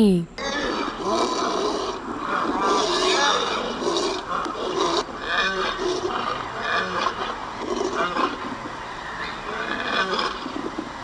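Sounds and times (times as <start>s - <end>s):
wild animal calls: 0.4s - 10.9s.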